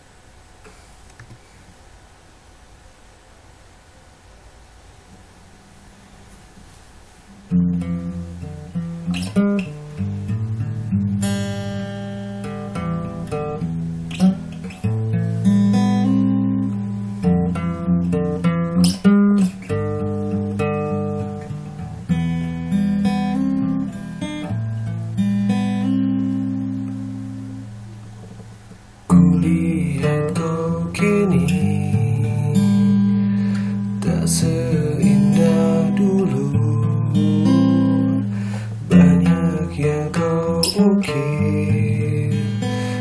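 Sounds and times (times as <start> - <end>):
faint hiss: 0.0 - 43.0
acoustic guitar strummed and picked: 7.3 - 43.0.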